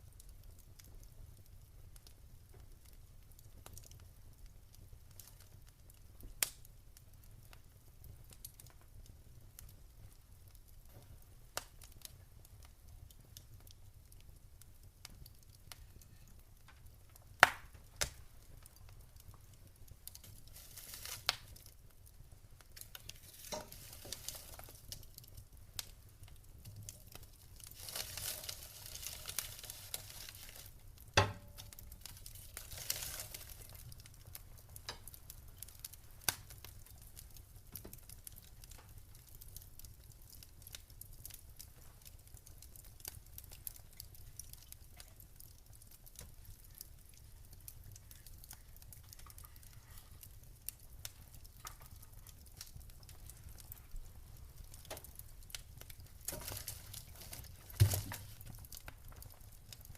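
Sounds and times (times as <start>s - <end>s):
soft hiss: 0.0s - 59.9s
wood fire crackling: 0.0s - 59.9s.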